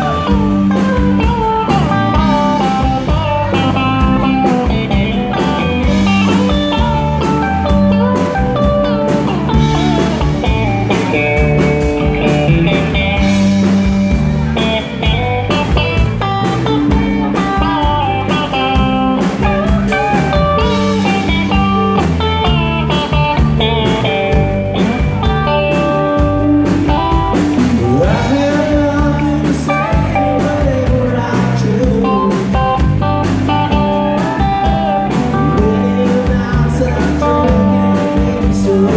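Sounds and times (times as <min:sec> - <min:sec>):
bass guitar: 0:00.0 - 0:38.9
drum kit: 0:00.0 - 0:38.9
electric guitar with bent notes: 0:00.0 - 0:38.9.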